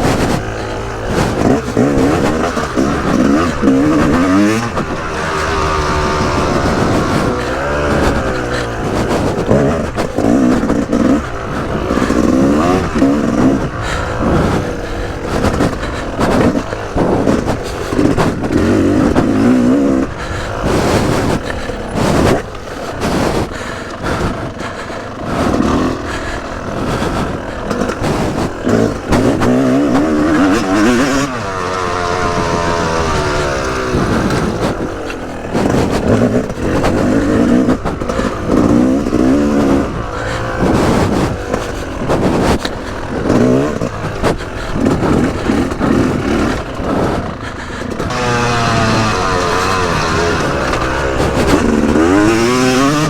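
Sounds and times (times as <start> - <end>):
knocks and buffeting: 0.0 - 53.0
motocross engine revving: 0.0 - 53.0.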